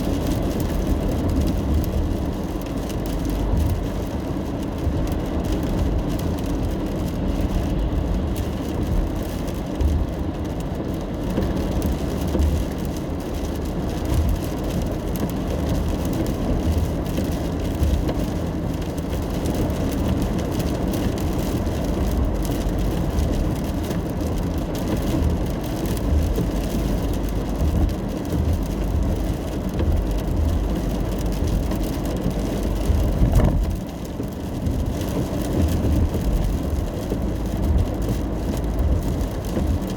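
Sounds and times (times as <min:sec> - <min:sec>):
car road and engine rumble: 0:00.0 - 0:39.9
rain hiss and tyre spray: 0:00.0 - 0:39.9.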